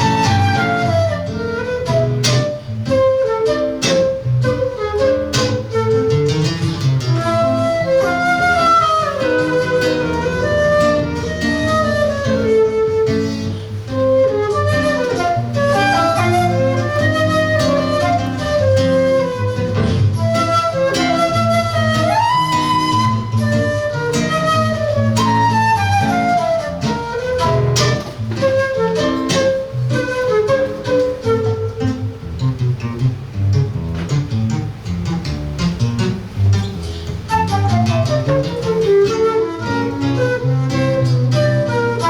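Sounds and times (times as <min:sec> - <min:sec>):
flute melody: 0:00.0 - 0:33.2, 0:36.5 - 0:42.0
acoustic guitar accompaniment: 0:00.0 - 0:42.0
plucked double bass: 0:00.0 - 0:42.0.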